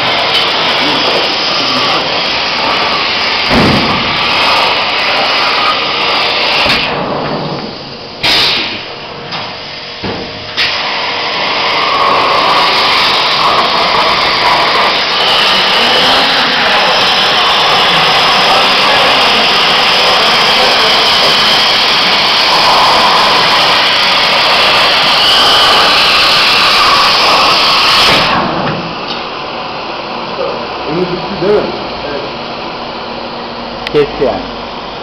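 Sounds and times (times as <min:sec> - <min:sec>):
plasma torch hissing: 0:00.0 - 0:29.3.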